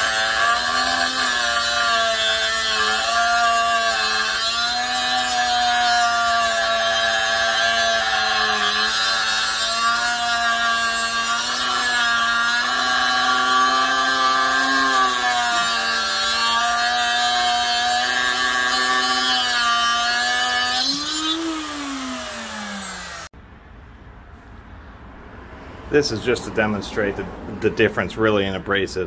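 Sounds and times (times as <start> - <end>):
cut-off tool grinding metal: 0.0 - 23.3.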